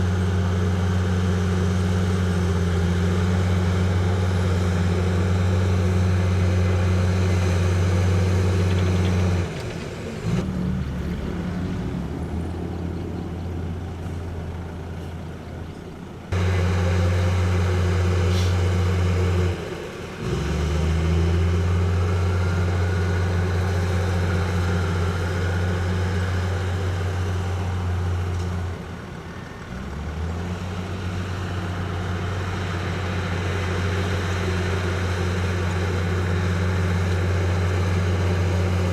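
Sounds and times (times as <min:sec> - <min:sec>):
diesel construction machinery droning: 0:00.0 - 0:38.9.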